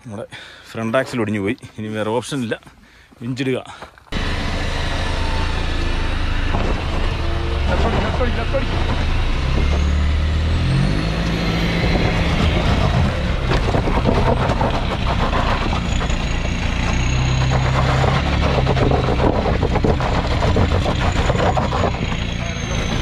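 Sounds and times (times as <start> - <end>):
off-road engine revving: 4.1 - 23.0.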